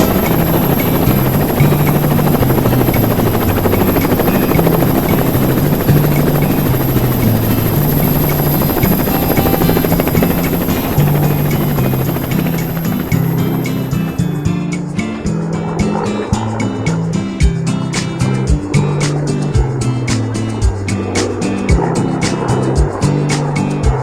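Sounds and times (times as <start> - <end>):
helicopter noise: 0.0 - 24.0
music with low bass line: 0.0 - 24.0.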